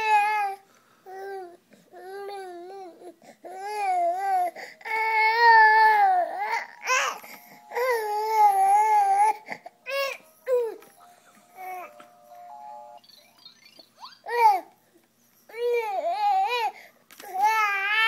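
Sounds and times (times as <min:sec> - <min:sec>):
infant crying and whining: 0:00.0 - 0:12.0, 0:14.2 - 0:14.8, 0:15.5 - 0:18.0.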